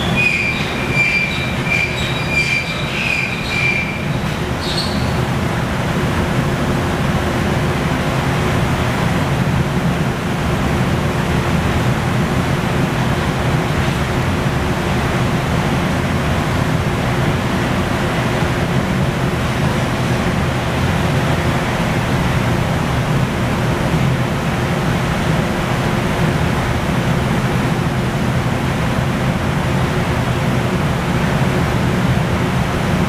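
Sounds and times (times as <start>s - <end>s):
furnaces and blowers rushing: 0.0s - 33.0s.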